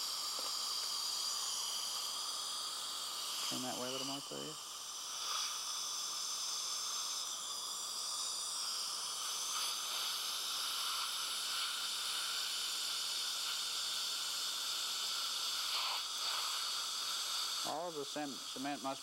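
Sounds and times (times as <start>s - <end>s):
dental suction tube hissing: 0.0s - 19.0s.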